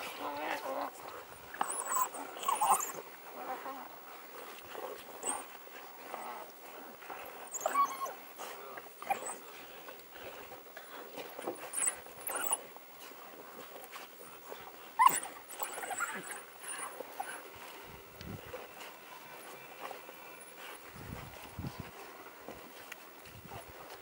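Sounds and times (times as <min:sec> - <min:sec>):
wild dogs whining and twittering: 0:00.0 - 0:21.2.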